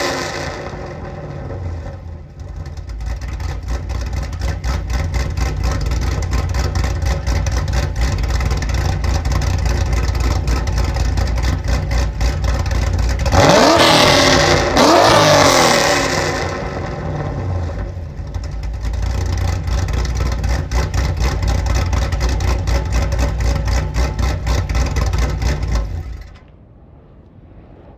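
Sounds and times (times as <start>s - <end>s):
car engine idling with choppy lope: 0.0s - 26.5s
car engine revving: 0.0s - 27.9s.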